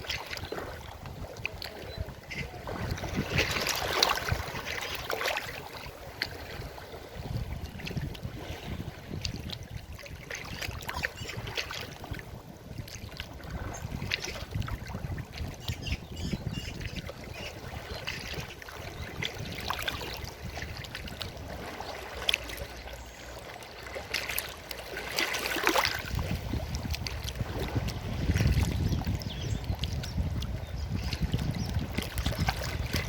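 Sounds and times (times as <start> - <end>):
deep water rumble: 0.0 - 33.0
water splashes and gurgles: 0.0 - 33.0.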